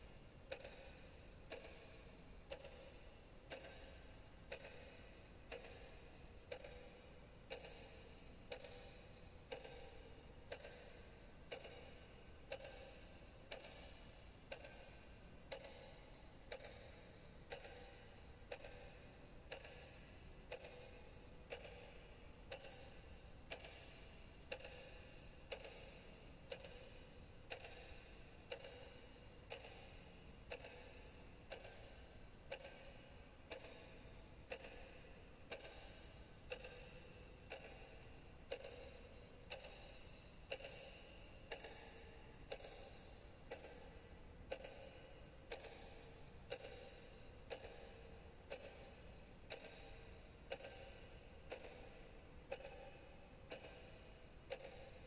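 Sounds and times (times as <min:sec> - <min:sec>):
clock ticking: 0:00.0 - 0:55.0.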